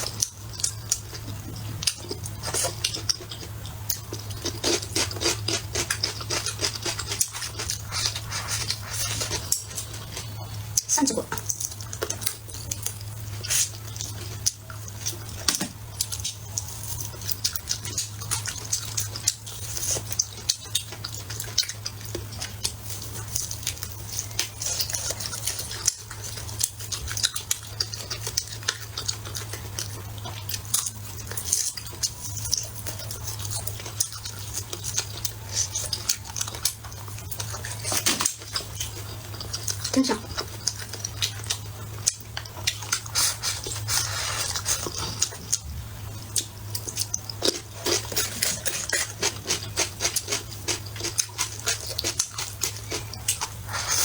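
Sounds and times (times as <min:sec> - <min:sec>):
chewing: 0:00.0 - 0:54.0
steady low hum: 0:00.0 - 0:54.0.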